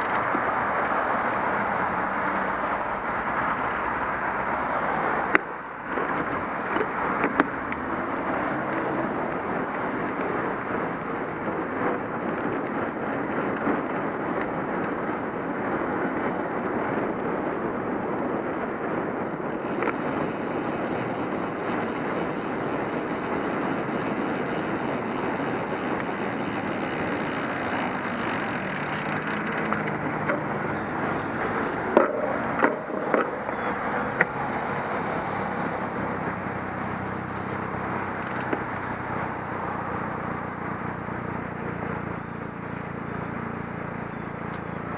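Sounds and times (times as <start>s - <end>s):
wind rush: 0.0s - 40.6s
bicycle tyre noise: 0.0s - 42.4s.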